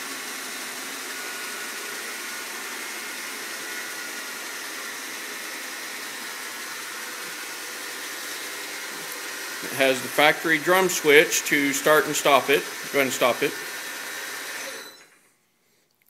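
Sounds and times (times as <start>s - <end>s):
lathe motor humming: 0.0s - 15.1s.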